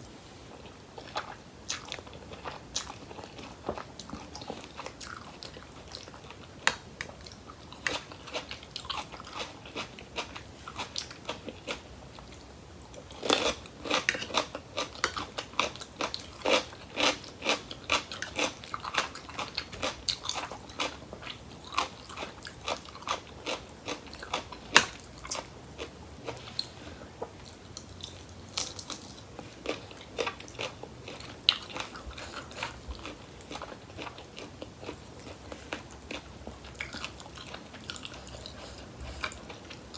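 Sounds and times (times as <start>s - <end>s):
chewing crisp vegetables: 0.0s - 39.9s.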